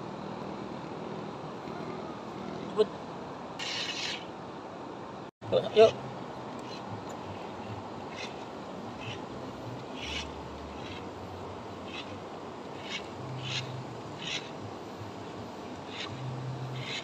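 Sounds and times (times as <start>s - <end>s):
river flowing: 2.7s - 17.0s.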